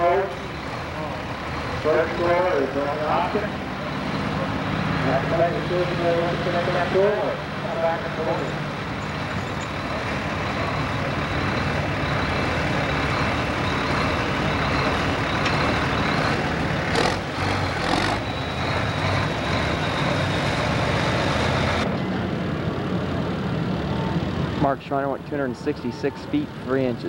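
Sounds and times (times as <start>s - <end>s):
tractor engine under full load: 0.0s - 27.0s.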